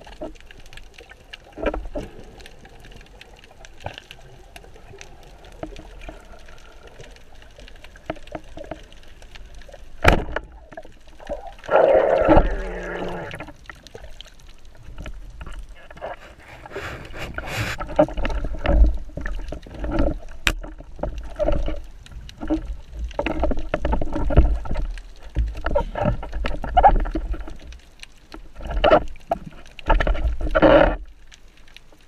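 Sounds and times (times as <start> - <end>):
water sloshing and gurgling: 0.0 - 32.0.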